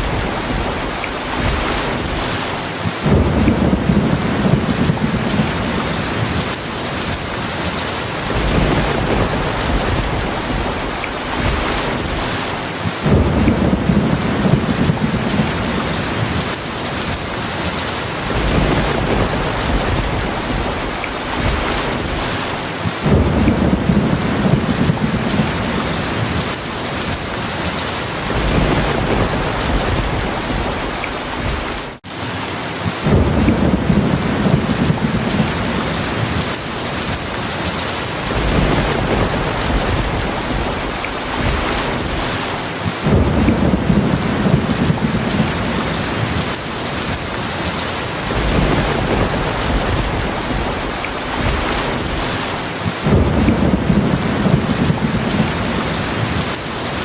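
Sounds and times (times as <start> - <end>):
low rolls of thunder: 0.0 - 32.0, 32.8 - 57.0
heavy rain falling: 0.0 - 57.0.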